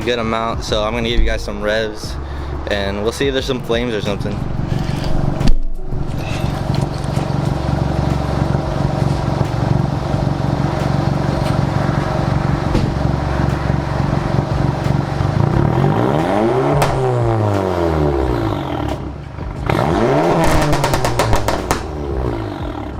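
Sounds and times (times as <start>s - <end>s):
loud car engine idling: 0.0s - 22.9s.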